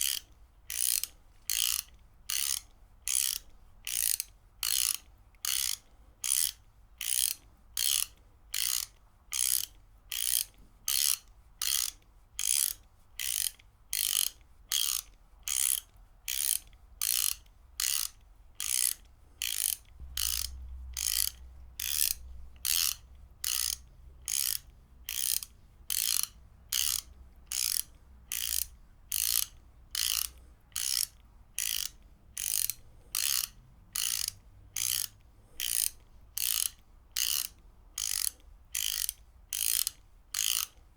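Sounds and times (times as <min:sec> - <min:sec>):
ratchet wrench clicking: 0:00.0 - 0:40.8.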